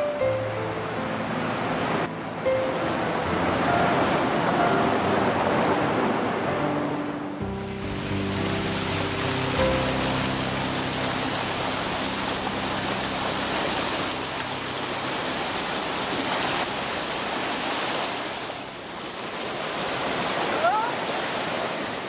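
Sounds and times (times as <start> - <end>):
creek rushing over boulders: 0.5 - 22.0.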